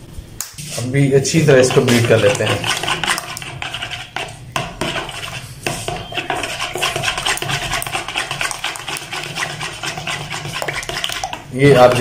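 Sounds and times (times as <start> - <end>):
fork whisking eggs in plastic bowl: 0.6 - 12.0.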